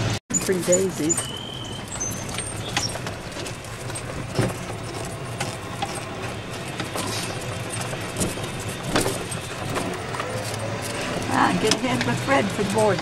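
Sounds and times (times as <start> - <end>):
vehicle engine running: 0.0 - 13.0
light rattles and knocks: 1.8 - 13.0.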